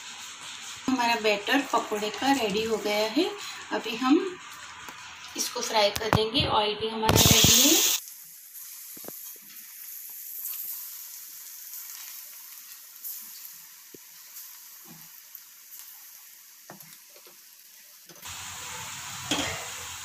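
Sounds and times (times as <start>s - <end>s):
batter deep-frying in oil: 0.0s - 6.3s, 6.9s - 20.0s.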